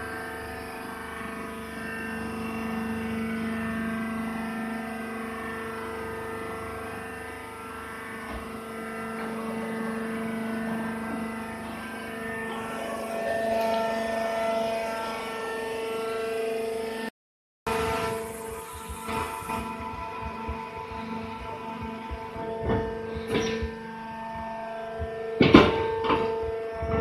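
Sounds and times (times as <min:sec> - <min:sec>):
high-pitched whine: 0:00.0 - 0:17.1, 0:17.7 - 0:27.0
hydraulic unit humming: 0:00.0 - 0:17.1, 0:17.7 - 0:27.0.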